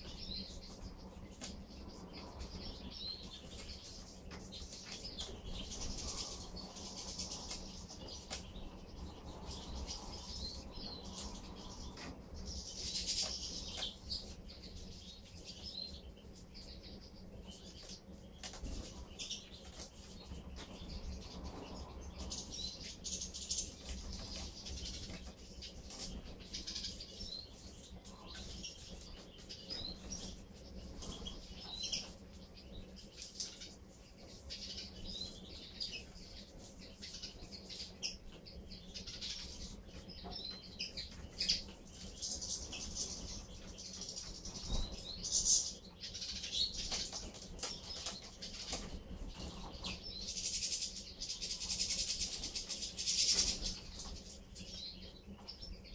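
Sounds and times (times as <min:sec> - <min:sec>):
finches twittering and chirping: 0:00.0 - 0:55.9.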